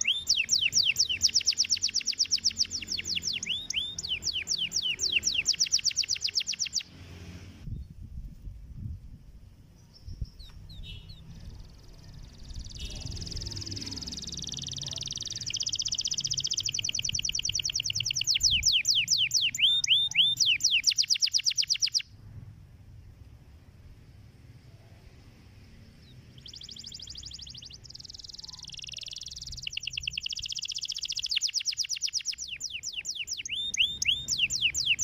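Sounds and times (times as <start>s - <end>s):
canary singing: 0.0s - 7.0s, 9.8s - 22.2s, 25.6s - 35.0s.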